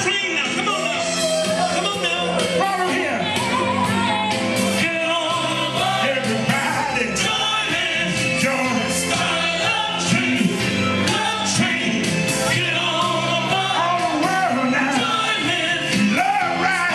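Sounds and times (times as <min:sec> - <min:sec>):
upbeat dance song with vocals: 0:00.0 - 0:16.9.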